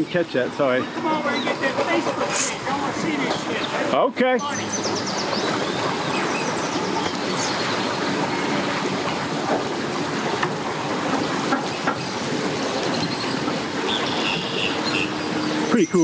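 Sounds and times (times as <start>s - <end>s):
vehicle towing boat trailer rumbling: 0.0s - 16.0s.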